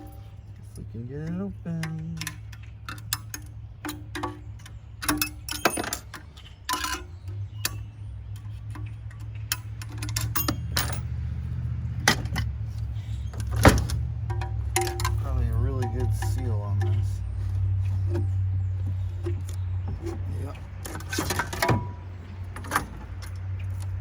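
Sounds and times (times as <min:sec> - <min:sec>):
metal tools clinking on metal: 0:00.0 - 0:24.0
steady low hum: 0:00.0 - 0:24.0.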